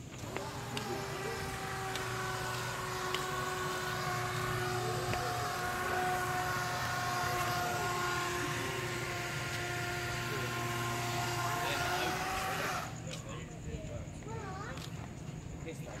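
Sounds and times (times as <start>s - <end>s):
mechanical hum with pitched whine: 0.0s - 16.0s.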